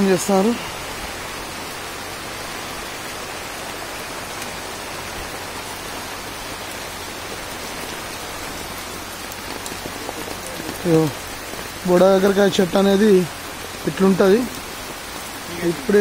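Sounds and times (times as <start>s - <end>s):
heavy rain on foliage: 0.0s - 16.0s.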